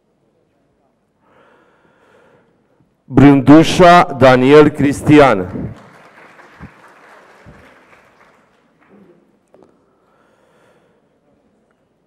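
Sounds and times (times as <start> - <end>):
faint hall ambience: 0.0 - 12.0.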